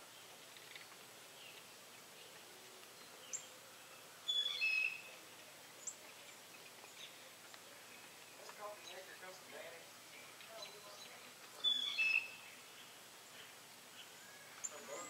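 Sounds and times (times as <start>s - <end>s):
birds chirping: 0.0s - 15.0s
faint outdoor hiss: 0.0s - 15.0s.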